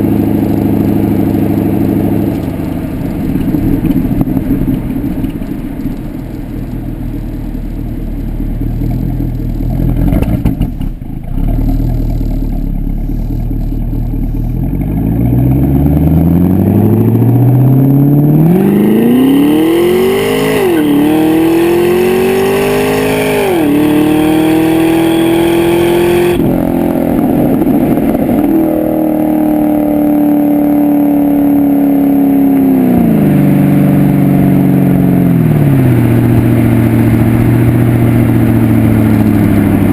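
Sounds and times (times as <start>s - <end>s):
car exhaust rumble and acceleration: 0.0s - 39.9s.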